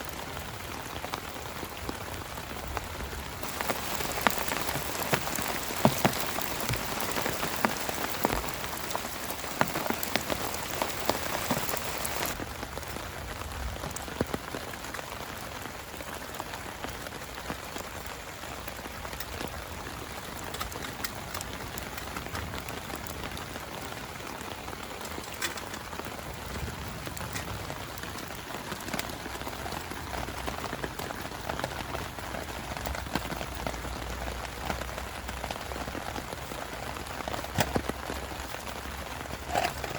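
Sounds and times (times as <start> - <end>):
heavy rain hiss: 0.0 - 39.9
raindrops ticking close by: 0.0 - 39.9.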